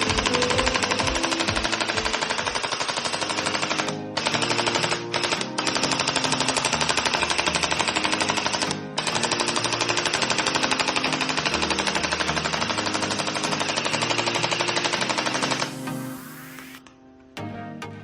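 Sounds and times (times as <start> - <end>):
toy rifle rapid-fire rattle: 0.0 - 15.8.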